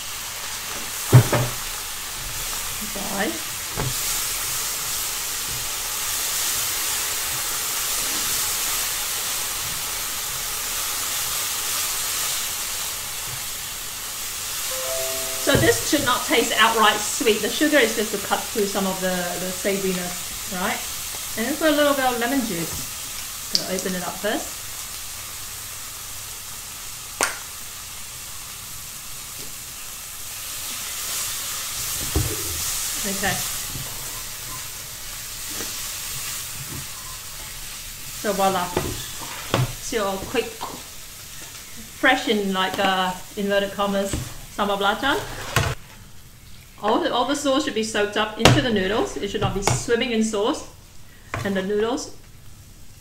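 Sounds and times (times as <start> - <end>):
chili paste sizzling in a wok: 0.0 - 53.0.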